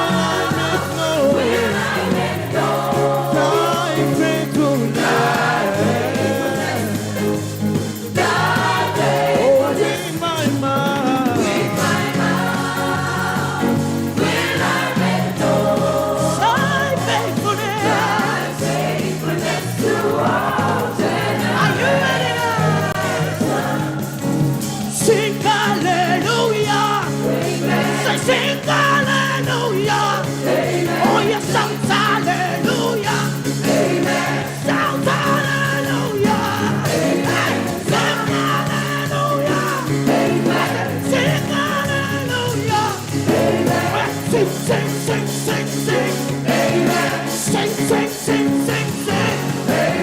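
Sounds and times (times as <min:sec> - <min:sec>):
band with drums: 0:00.0 - 0:50.0
gospel choir singing: 0:00.0 - 0:50.0.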